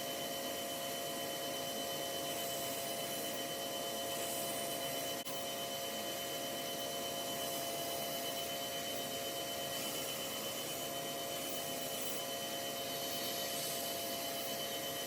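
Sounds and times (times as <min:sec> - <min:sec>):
small electric machine whining: 0:00.0 - 0:15.0.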